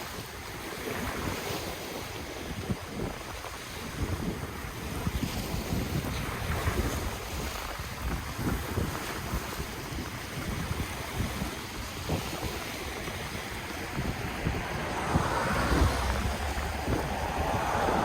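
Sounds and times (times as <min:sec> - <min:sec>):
ocean waves on the shore: 0:00.0 - 0:18.0
wind gusting on microphone: 0:00.0 - 0:18.0.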